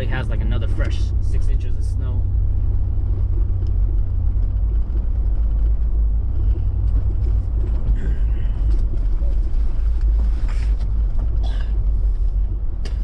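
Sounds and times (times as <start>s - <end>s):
car engine rumble: 0.0s - 13.0s
road rumble: 0.0s - 13.0s.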